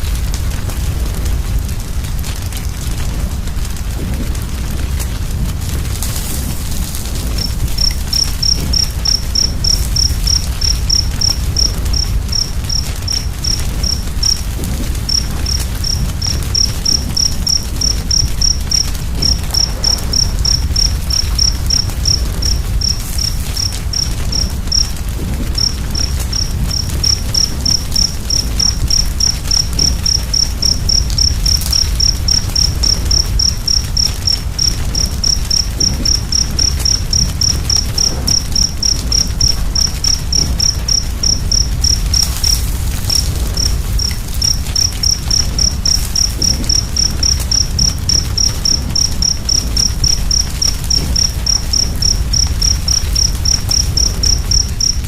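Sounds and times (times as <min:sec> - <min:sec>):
wood fire crackling: 0:00.0 - 0:55.0
cricket chirping: 0:04.0 - 0:55.0.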